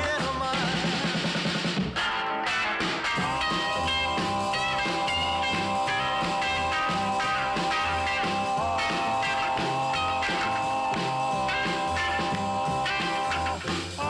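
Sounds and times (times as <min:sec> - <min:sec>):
instrumental rock music: 0:00.0 - 0:14.0.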